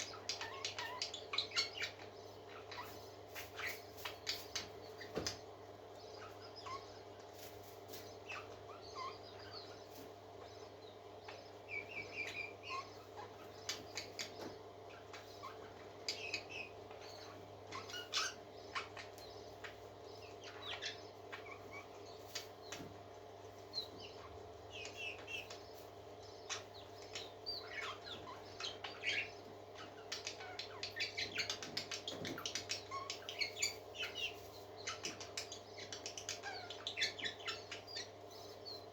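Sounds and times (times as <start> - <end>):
parakeets chirping and warbling: 0.0 - 38.9
steady low hum: 0.0 - 38.9.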